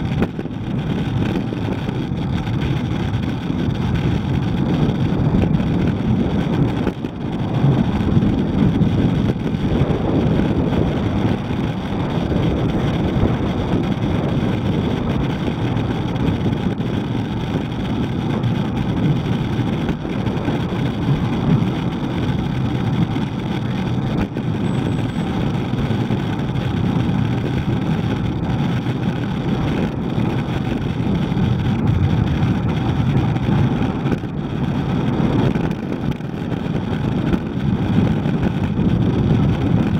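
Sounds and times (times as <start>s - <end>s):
road and traffic noise: 0.0s - 39.9s
wind buffeting microphone: 0.0s - 39.9s.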